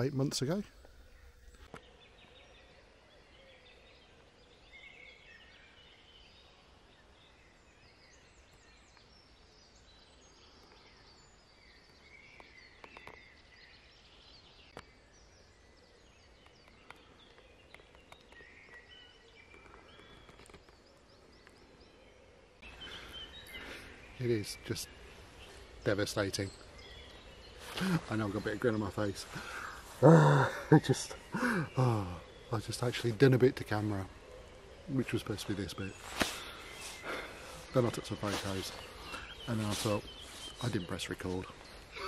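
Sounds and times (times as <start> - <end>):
birds chirping and trilling: 0.0 - 42.0.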